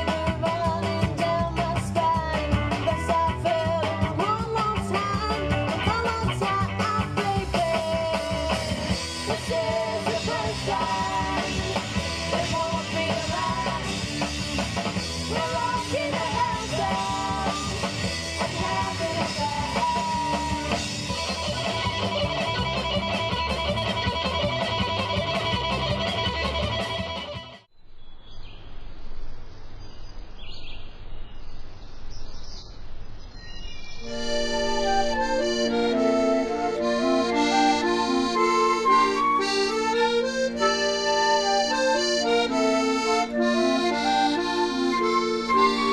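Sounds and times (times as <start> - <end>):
rock music with guitar: 0.0 - 27.7, 34.1 - 45.9.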